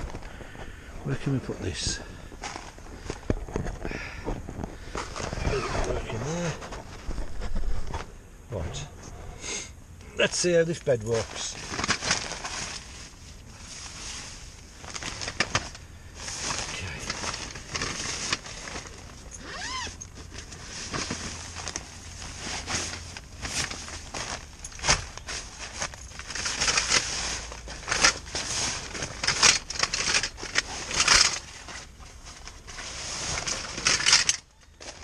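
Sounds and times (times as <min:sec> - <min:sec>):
fabric rustling and crinkling: 0:00.0 - 0:08.1, 0:10.2 - 0:35.0.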